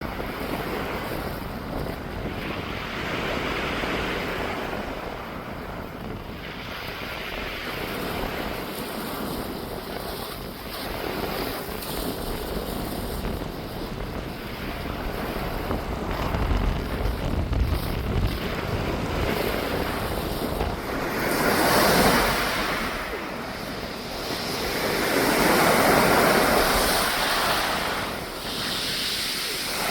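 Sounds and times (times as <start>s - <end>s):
sea waves washing in: 0.0s - 29.9s
wind rumbling on microphone: 0.0s - 29.9s.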